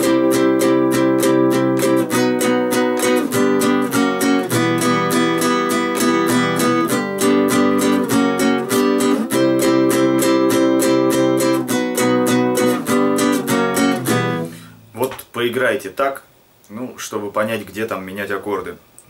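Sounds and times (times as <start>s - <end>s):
acoustic guitar strumming: 0.0s - 15.3s.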